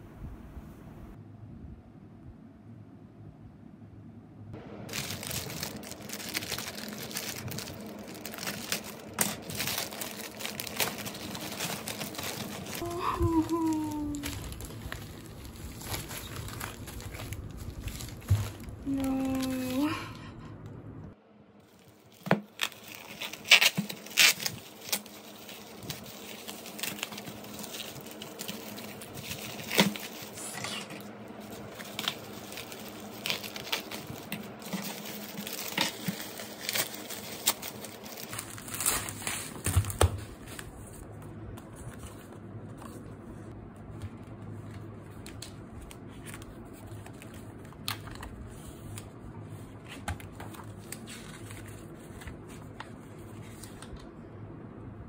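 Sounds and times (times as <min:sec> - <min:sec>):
paper rustling: 0:04.9 - 0:19.9, 0:21.6 - 0:54.0
bubble wrap crinkling: 0:04.9 - 0:20.1, 0:21.6 - 0:54.0.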